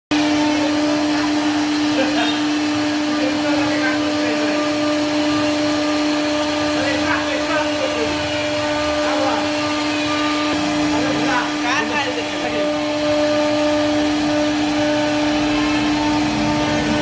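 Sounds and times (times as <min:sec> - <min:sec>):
router spindle whining: 0:00.1 - 0:17.0.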